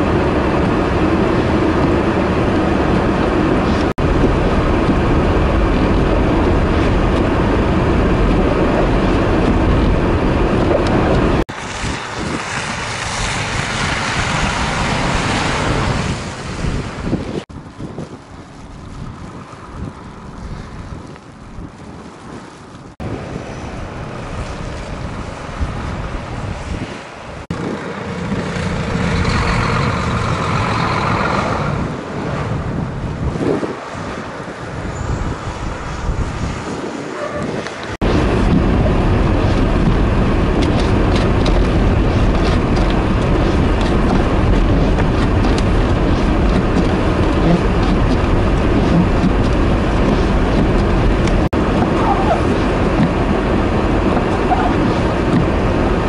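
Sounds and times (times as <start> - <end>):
diesel truck engines: 0.0 - 56.0
traffic rumble: 0.0 - 56.0
wind: 0.0 - 56.0.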